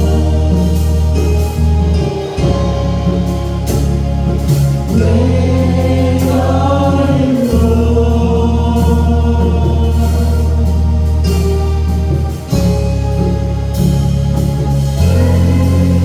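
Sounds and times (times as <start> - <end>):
band accompaniment: 0.0 - 16.0
gospel choir singing: 0.0 - 16.0
steady bass line: 0.0 - 16.0.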